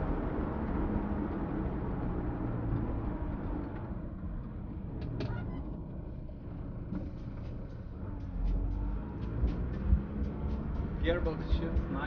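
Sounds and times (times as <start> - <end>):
van engine driving: 0.0 - 12.0.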